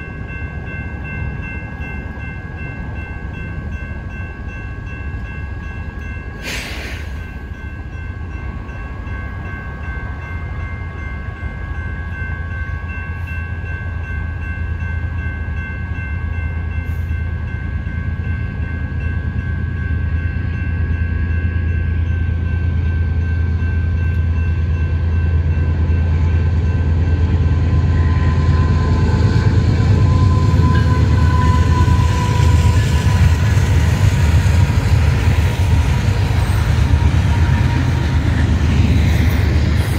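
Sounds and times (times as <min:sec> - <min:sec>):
crossing signal bells ringing: 0:00.0 - 0:39.9
diesel locomotives rumbling: 0:00.0 - 0:39.9.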